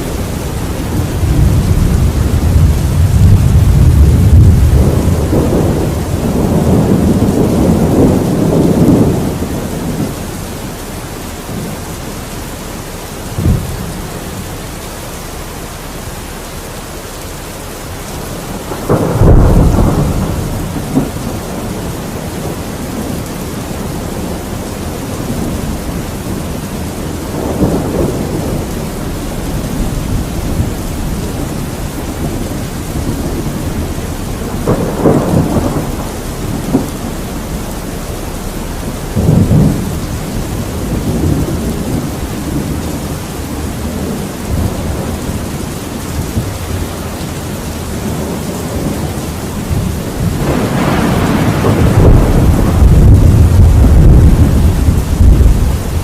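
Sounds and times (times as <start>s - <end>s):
rolling thunder: 0.0s - 15.9s, 17.8s - 56.0s
heavy rain: 0.0s - 56.0s.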